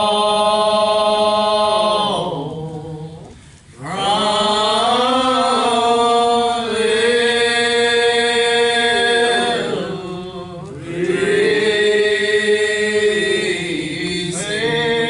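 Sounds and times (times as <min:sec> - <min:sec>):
church choir singing: 0:00.0 - 0:15.0.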